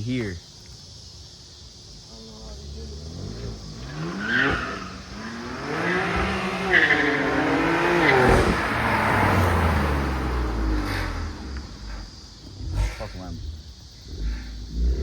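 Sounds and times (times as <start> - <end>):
car engine revving: 2.4 - 15.0.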